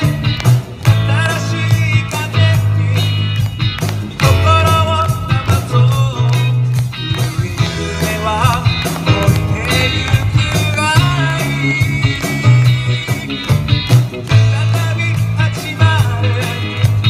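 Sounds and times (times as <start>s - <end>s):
bass guitar: 0.0s - 17.0s
electric guitars: 0.0s - 17.0s
keyboard: 0.0s - 17.0s
steady drum beat: 0.0s - 17.0s
male vocals: 0.8s - 17.0s.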